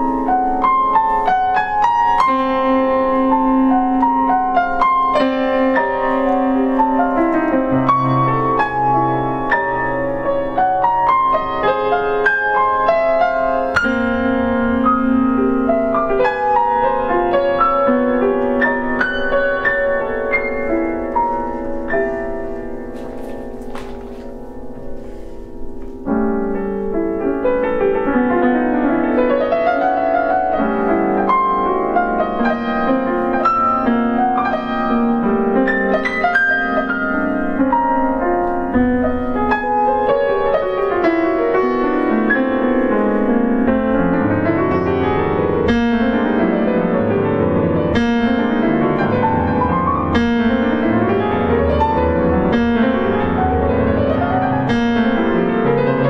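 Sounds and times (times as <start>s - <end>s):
solo piano playing: 0.0s - 56.0s.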